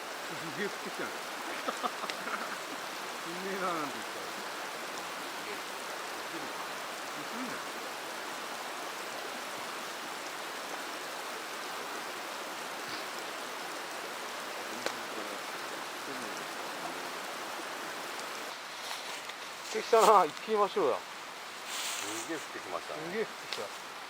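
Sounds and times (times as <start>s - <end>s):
mountain stream rushing: 0.0s - 24.0s.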